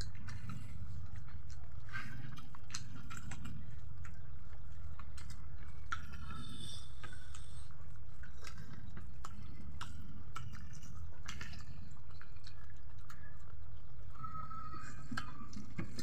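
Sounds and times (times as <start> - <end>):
steady low hum: 0.0 - 16.0
wet chewing and mouth smacks: 0.0 - 16.0.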